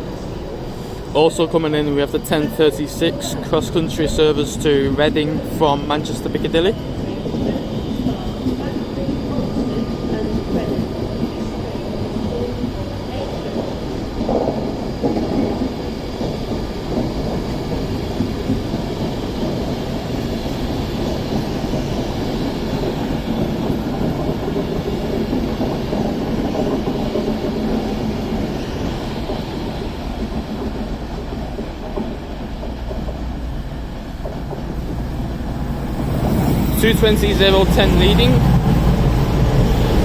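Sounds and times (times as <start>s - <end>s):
diesel train engines rumbling: 0.0s - 40.0s
train wheels on rail: 0.0s - 40.0s.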